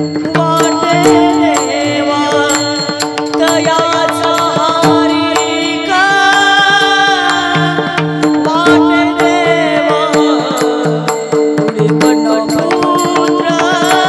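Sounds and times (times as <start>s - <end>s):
rapid drum strokes: 0.0s - 14.0s.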